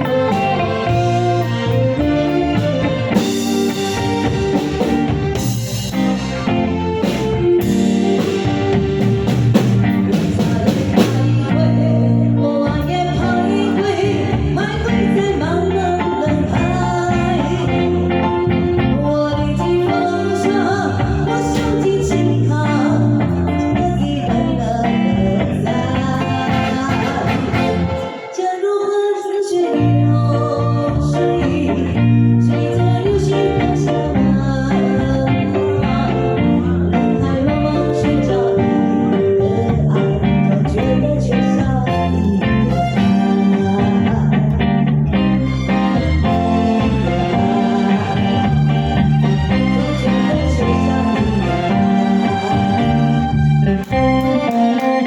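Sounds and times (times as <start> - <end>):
guitar-led backing music: 0.0 - 55.0
person singing a ballad: 0.0 - 55.0.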